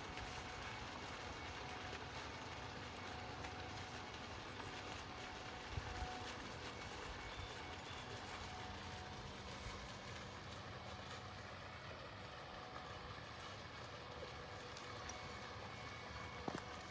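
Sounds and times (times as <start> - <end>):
faint steady tones: 0.0 - 16.9
low mechanical hum: 0.0 - 16.9.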